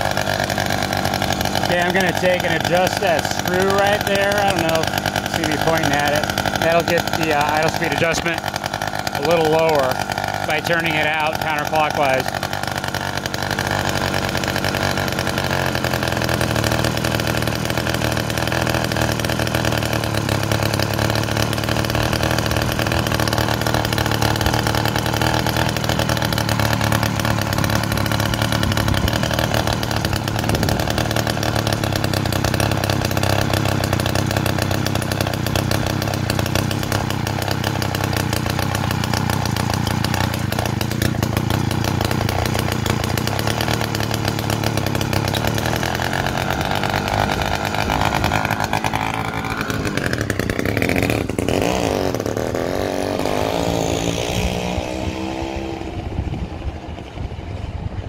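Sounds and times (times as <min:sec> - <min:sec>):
small engine idling: 0:00.0 - 0:58.0.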